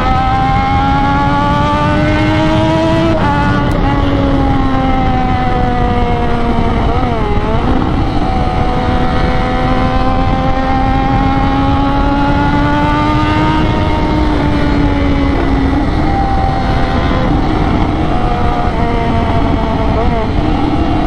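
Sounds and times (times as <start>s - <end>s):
motorcycle engine: 0.0s - 21.0s
wind rush: 0.0s - 21.0s.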